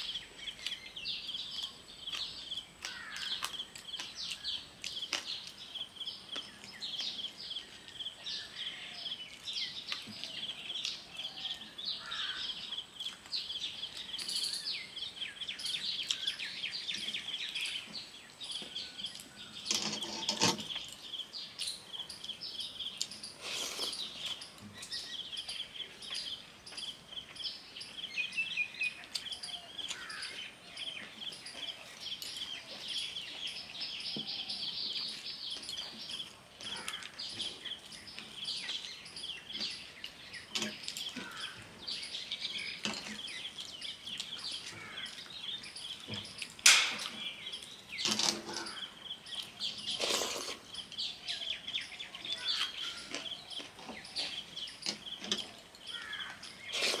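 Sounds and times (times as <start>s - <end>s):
birds chirping rapidly: 0.0s - 57.0s.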